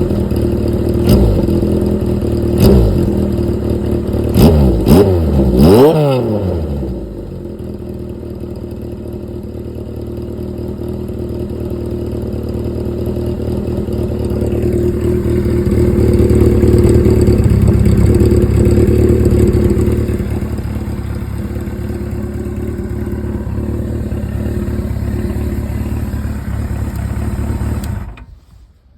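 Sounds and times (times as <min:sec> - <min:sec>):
motorcycle engine idling: 0:00.0 - 0:05.6, 0:06.6 - 0:28.4.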